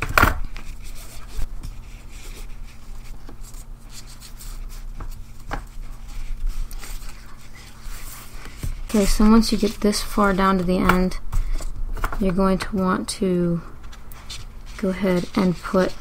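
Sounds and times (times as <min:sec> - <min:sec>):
cord rubbing and rustling: 0:00.0 - 0:12.3, 0:13.8 - 0:16.0.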